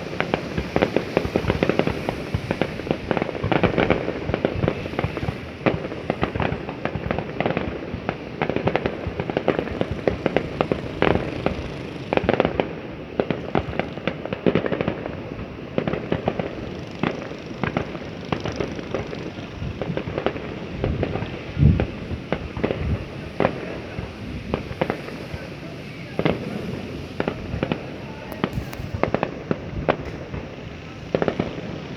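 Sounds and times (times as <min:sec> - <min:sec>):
deep firework boom: 0:00.0 - 0:31.9
fireworks bangs and crackles: 0:00.0 - 0:31.9.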